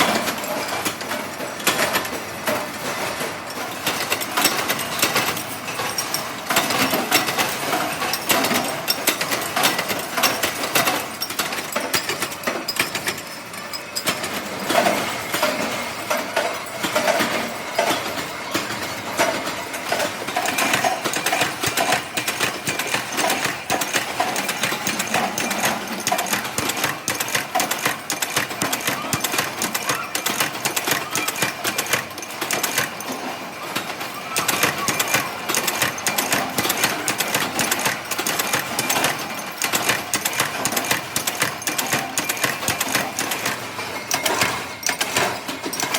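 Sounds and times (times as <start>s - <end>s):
workshop machinery clattering: 0.0s - 45.9s.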